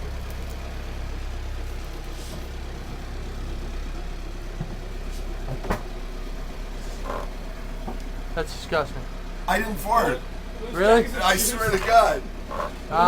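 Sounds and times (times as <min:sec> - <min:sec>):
engine running with low drone: 0:00.0 - 0:13.0.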